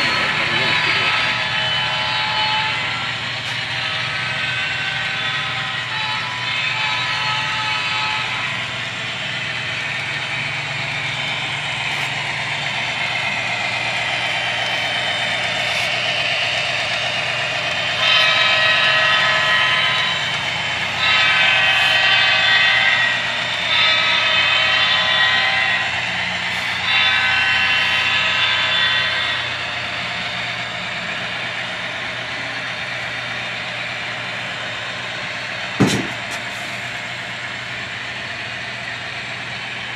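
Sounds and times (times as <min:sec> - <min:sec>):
model locomotive engine rumble: 0:00.0 - 0:39.9.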